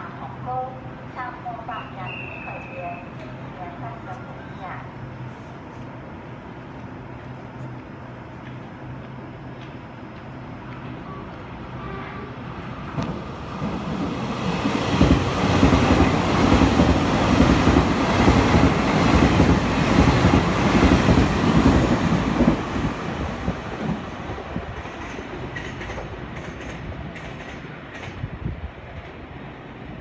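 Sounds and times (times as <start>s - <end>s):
train passing at speed: 0.0s - 30.0s.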